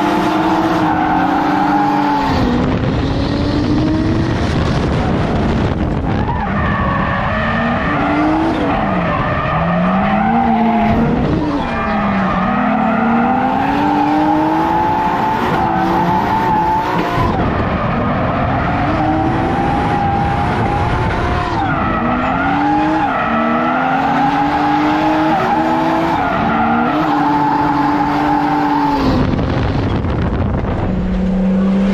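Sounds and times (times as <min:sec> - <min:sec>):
car engines revving hard: 0:00.0 - 0:31.9.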